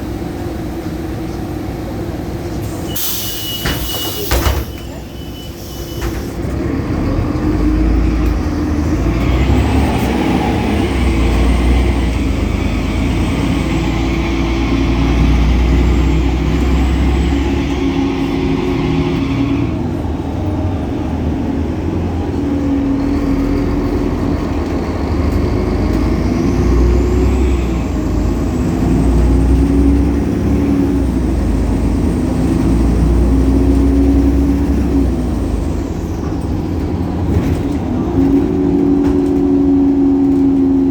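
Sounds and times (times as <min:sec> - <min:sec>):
bus diesel engine pulling away: 0:00.0 - 0:40.9.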